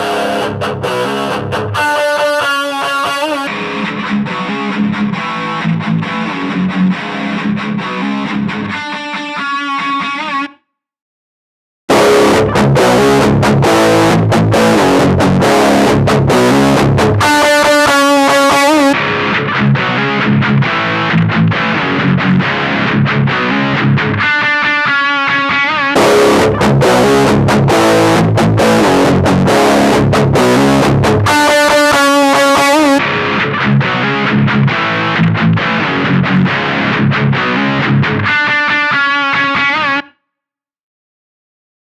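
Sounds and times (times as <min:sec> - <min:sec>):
distorted electric guitar riff: 0:00.0 - 0:10.6, 0:11.9 - 0:40.1.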